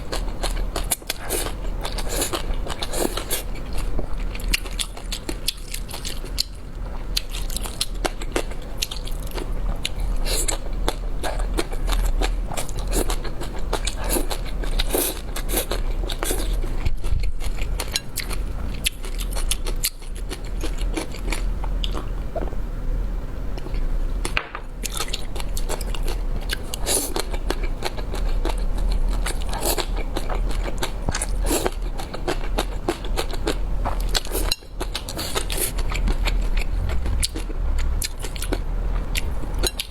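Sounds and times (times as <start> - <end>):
person chewing noodles: 0.0 - 22.5, 23.6 - 39.9.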